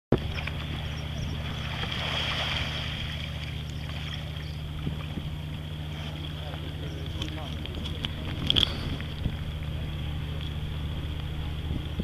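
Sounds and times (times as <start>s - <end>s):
steady low hum: 0.1s - 12.0s
water splashing and swishing: 0.1s - 12.0s.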